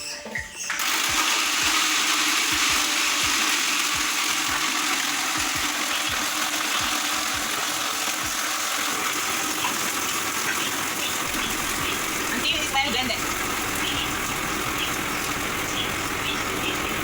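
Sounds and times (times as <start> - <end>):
blender churning ice: 0.7 - 17.0.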